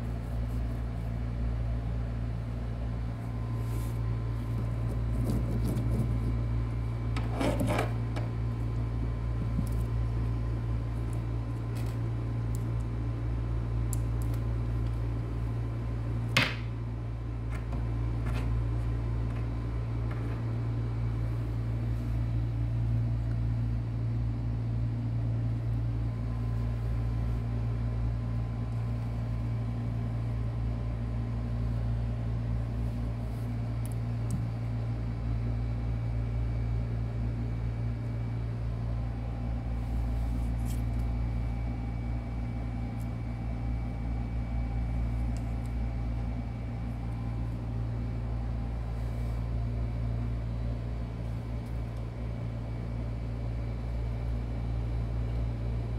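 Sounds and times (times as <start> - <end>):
low mechanical hum: 0.0 - 55.9.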